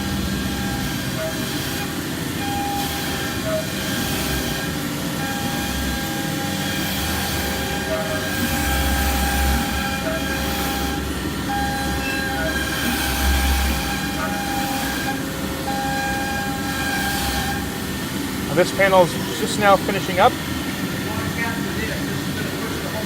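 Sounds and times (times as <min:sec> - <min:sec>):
router machine drone: 0:00.0 - 0:23.0
spindle whine: 0:00.0 - 0:23.0.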